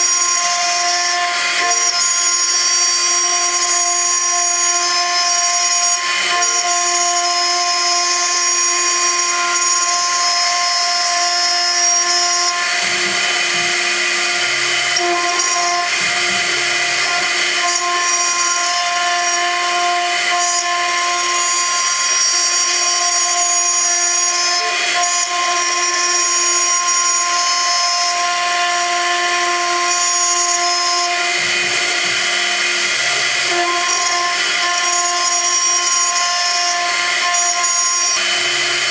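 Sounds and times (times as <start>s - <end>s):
cutter machining metal: 0.0s - 38.9s
milling spindle whine: 0.0s - 38.9s.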